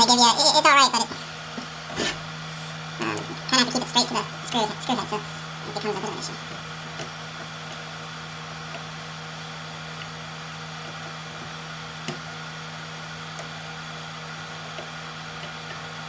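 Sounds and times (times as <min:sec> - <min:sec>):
electric hum and whir: 0:00.0 - 0:16.0.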